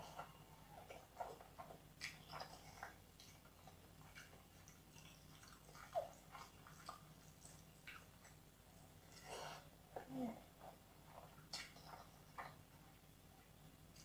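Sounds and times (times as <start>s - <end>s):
person chewing food: 0.0s - 13.0s
faint low hum: 0.0s - 14.0s.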